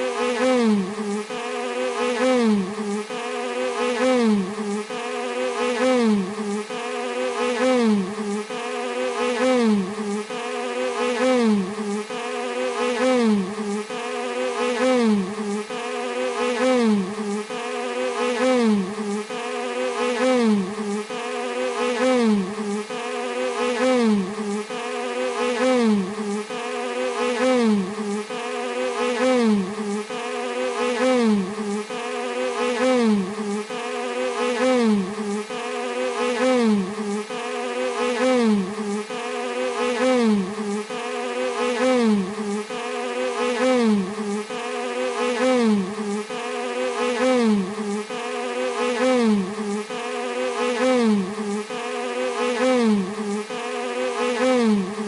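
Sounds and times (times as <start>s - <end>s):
bee buzzing: 0.0s - 54.8s.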